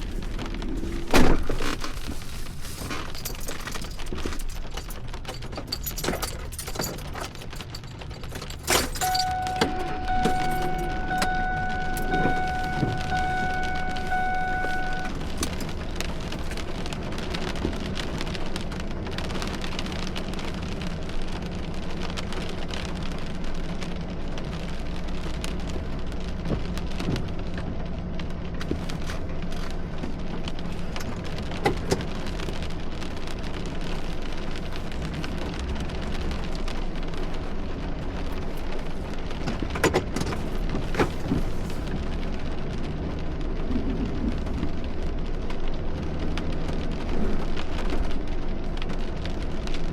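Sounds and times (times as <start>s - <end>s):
heavy rain on a hard surface: 0.0s - 49.9s.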